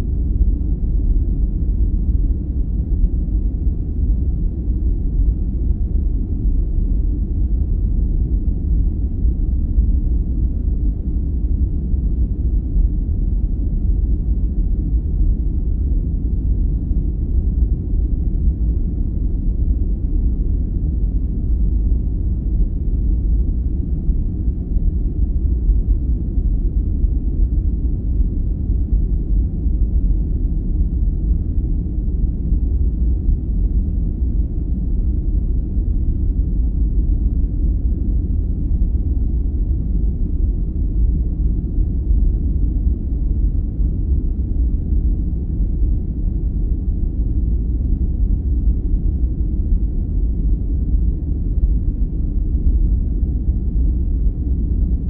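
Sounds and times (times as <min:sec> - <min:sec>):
low rumbling brown noise: 0:00.0 - 0:55.0.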